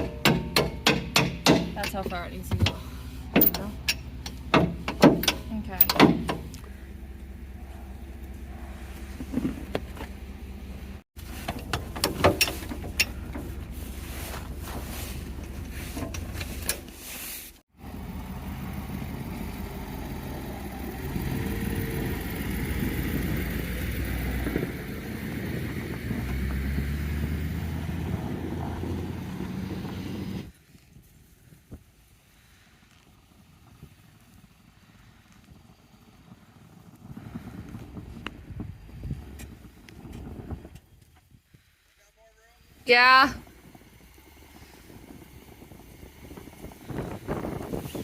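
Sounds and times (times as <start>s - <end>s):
vehicle engine running: 0.0s - 30.6s, 32.4s - 41.0s, 42.4s - 48.0s.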